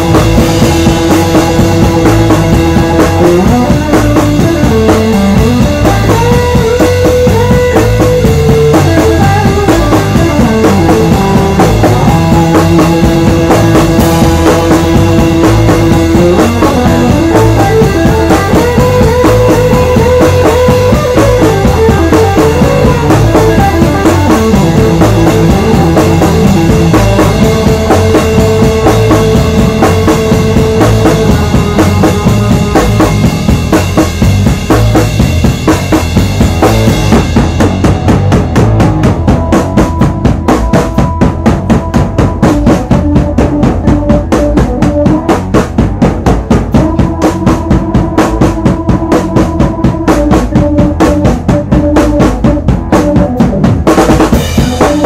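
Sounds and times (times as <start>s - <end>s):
instrumental rock band music: 0.0s - 55.0s.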